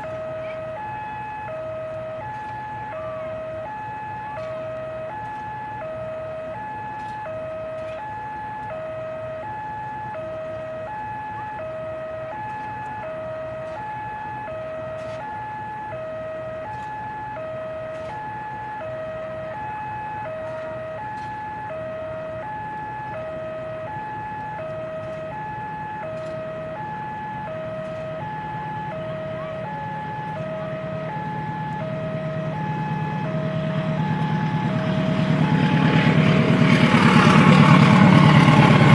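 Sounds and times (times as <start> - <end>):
diesel train rumble: 0.0 - 38.9
two-tone level crossing alarm: 0.0 - 38.9.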